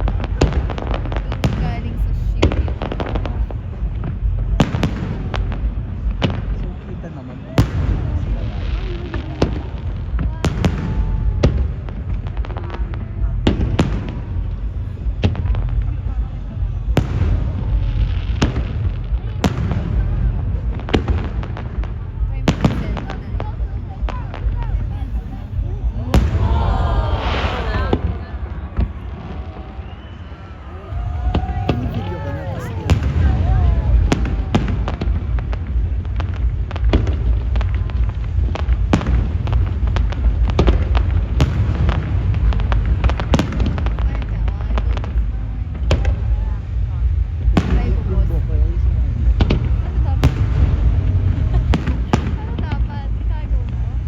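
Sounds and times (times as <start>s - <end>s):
distant fireworks rumble: 0.0s - 54.0s
fireworks bangs: 0.0s - 54.0s.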